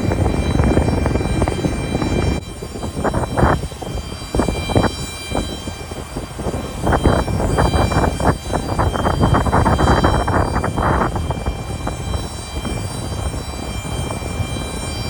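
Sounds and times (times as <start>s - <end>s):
jet engine low rumble: 0.0s - 15.0s
jet engine whine: 0.0s - 15.0s.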